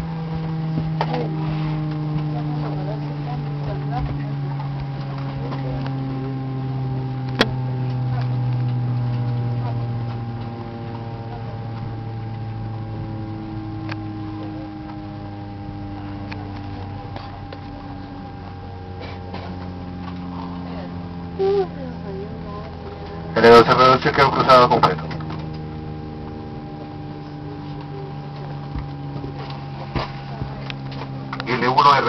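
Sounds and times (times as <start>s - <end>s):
jet engines winding down: 0.0s - 32.0s.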